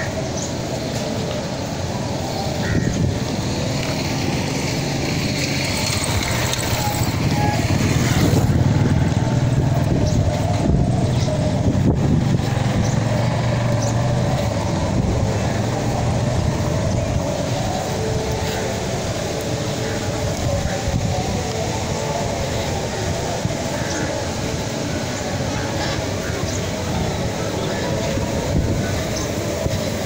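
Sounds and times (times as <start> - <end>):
motorcycle engine passing by: 2.2 - 30.0.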